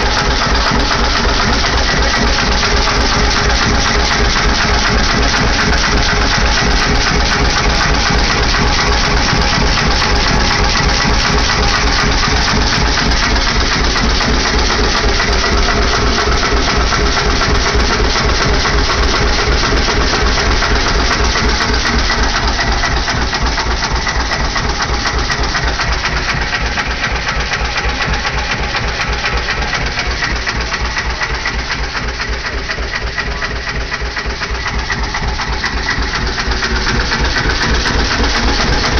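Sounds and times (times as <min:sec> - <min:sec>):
pump jack pumping water: 0:00.0 - 0:38.9
single-cylinder engine running: 0:00.0 - 0:38.9.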